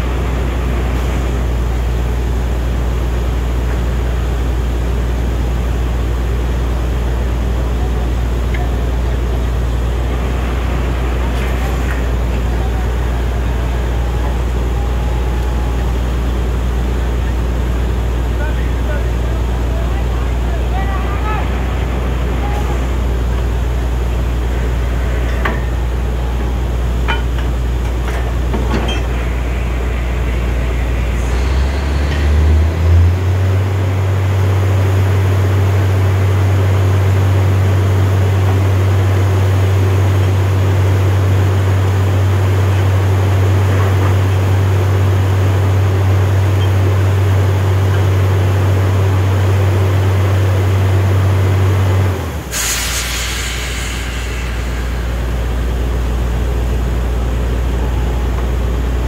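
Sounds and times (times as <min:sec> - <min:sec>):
drilling rig engine running: 0:00.0 - 0:59.0.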